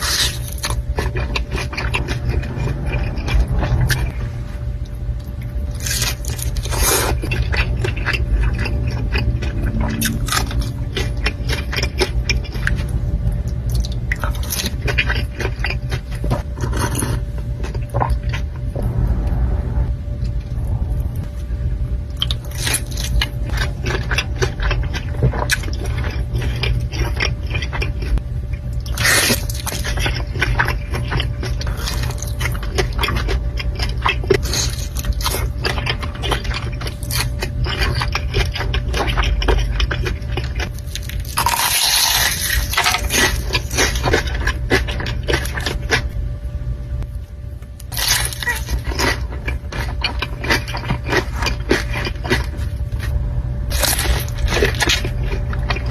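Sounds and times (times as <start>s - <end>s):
chewing and crunching: 0.0s - 19.5s, 20.2s - 46.4s, 47.0s - 55.9s
steady low hum: 0.0s - 55.9s.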